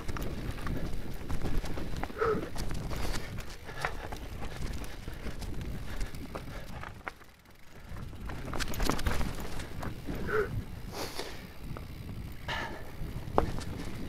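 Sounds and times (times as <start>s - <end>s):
bike chain rattling: 0.0s - 14.0s.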